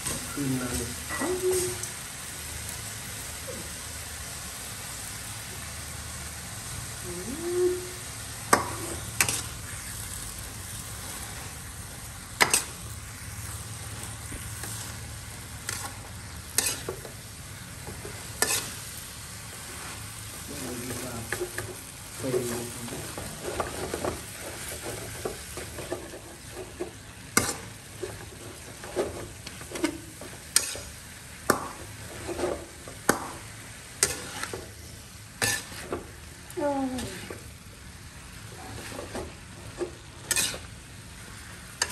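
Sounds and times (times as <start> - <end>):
spatula scraping and knocking wok: 0.0 - 1.9, 8.3 - 41.9
greens sizzling in a wok: 0.0 - 41.9.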